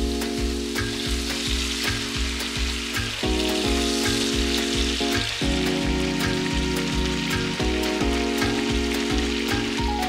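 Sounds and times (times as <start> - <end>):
background music with beat: 0.0 - 10.0
chicken sizzling in frying pan: 0.0 - 10.0.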